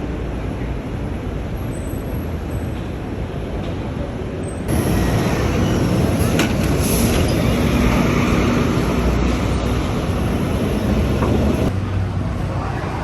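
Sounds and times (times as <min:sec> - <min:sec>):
rumble of motor vehicles: 0:00.0 - 0:13.0.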